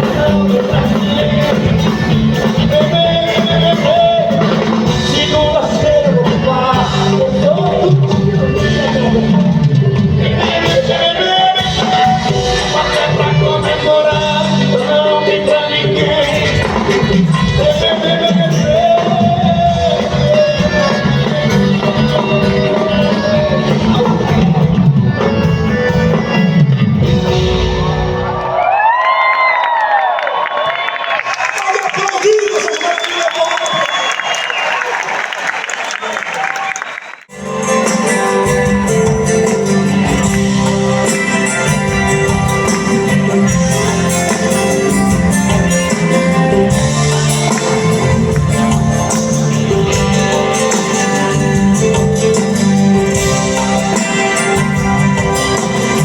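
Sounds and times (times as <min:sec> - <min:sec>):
steady percussion beat: 0:00.0 - 0:28.2, 0:37.3 - 0:56.0
band playing music: 0:00.0 - 0:28.8, 0:37.3 - 0:56.0
guitar: 0:00.0 - 0:28.8, 0:37.3 - 0:56.0.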